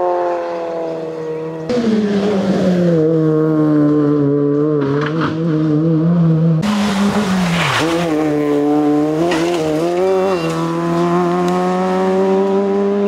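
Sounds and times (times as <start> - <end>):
rally car engine running hard: 0.6 - 13.0.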